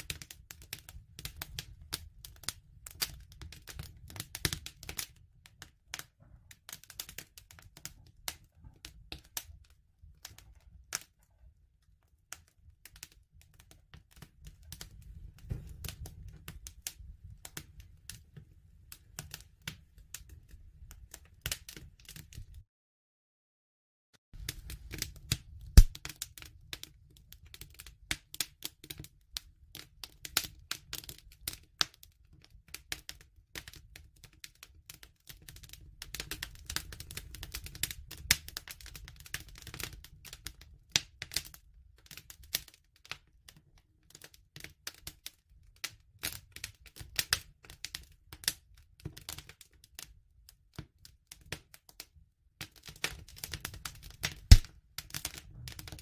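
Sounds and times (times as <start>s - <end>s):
bonfire crackling and popping: 0.0s - 22.6s, 24.4s - 43.2s, 46.2s - 50.1s, 52.6s - 56.0s.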